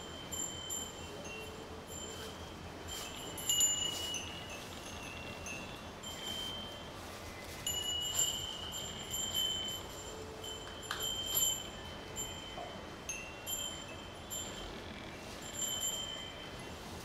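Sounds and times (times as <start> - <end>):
metallic chiming: 0.0 - 16.8.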